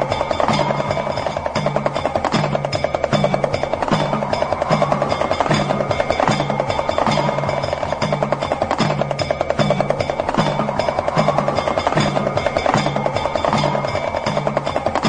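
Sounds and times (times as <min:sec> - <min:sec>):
hand drum rattling roll: 0:00.0 - 0:15.0
ringing held tones: 0:00.0 - 0:15.0.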